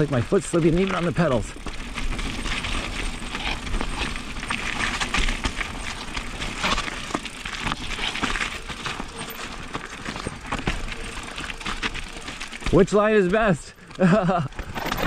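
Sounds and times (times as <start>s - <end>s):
bike knocking and rattling: 0.0s - 15.0s
tyres crunching over rock: 0.0s - 15.0s.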